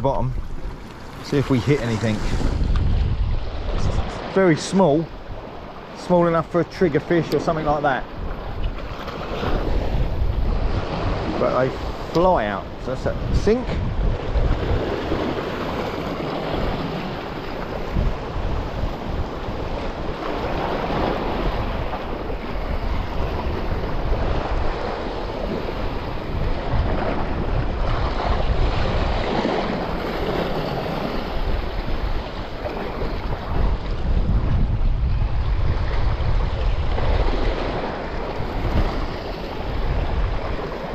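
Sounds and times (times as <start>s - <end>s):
sea waves washing against rocks: 0.0s - 40.9s
wind buffeting microphone: 0.0s - 40.9s.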